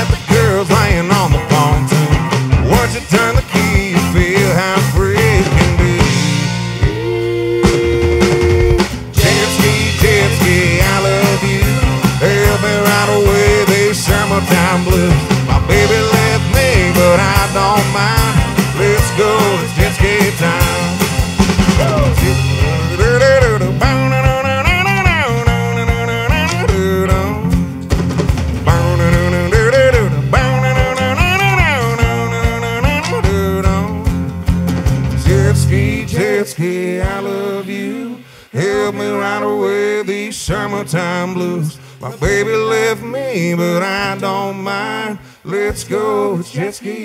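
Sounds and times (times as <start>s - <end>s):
men singing: 0.0s - 27.6s, 28.7s - 34.2s, 35.2s - 47.0s
drum kit with cymbals: 0.0s - 42.9s
pitch-bending lead guitar line: 0.0s - 46.7s
bass guitar: 0.0s - 47.0s.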